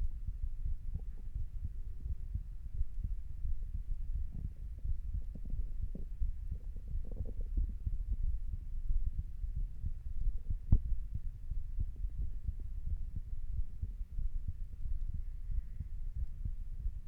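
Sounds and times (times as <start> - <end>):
heartbeat low thuds: 0.0 - 17.0.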